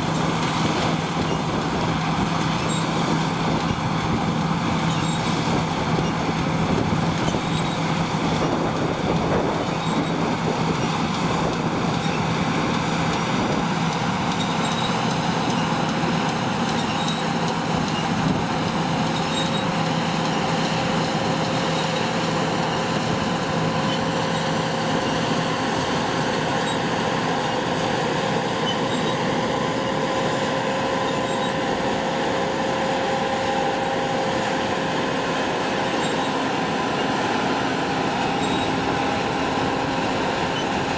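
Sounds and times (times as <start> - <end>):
harvest machinery engine drone: 0.0 - 40.9
high steady whine: 0.0 - 40.9.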